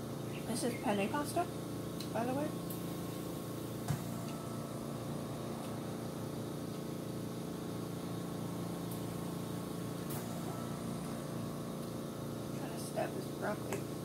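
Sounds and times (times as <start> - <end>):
small motor humming: 0.0 - 14.0.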